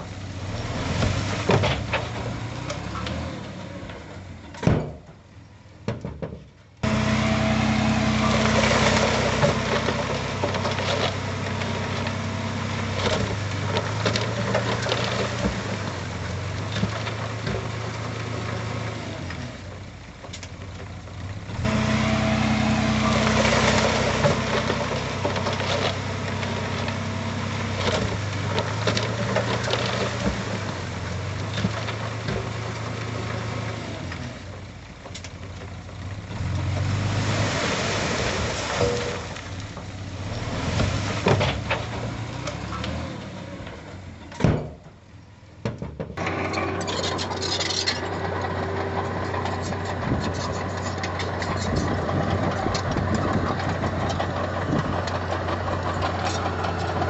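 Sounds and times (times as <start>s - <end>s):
diesel engine running: 6.8s - 57.0s.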